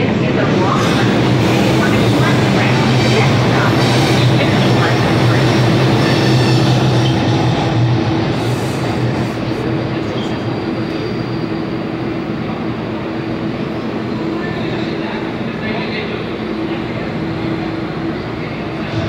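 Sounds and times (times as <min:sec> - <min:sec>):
subway car humming and rumbling: 0:00.0 - 0:19.0.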